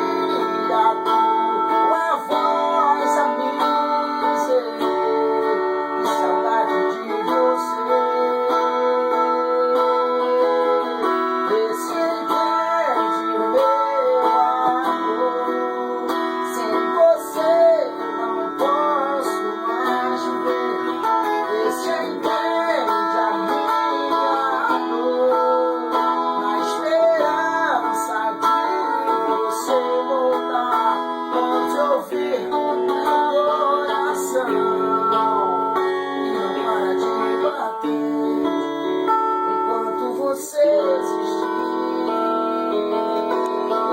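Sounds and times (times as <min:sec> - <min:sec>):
guitar playing chords: 0:00.0 - 0:43.9.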